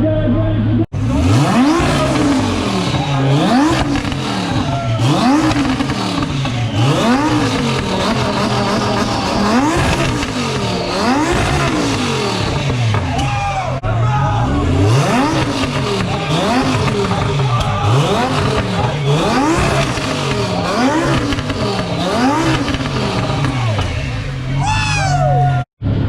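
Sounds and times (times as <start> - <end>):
car engine idling: 0.9 - 25.2
car engine revving: 0.9 - 25.2.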